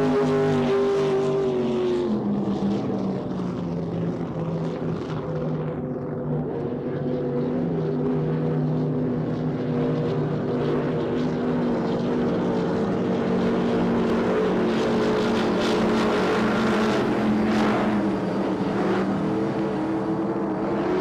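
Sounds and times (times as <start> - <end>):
powerboat engines droning: 0.0 - 21.0.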